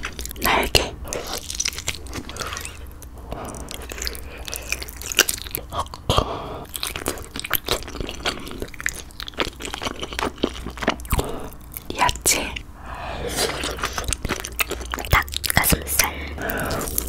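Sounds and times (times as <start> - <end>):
wet chewing with sharp clicks: 0.0 - 12.6, 13.4 - 17.0.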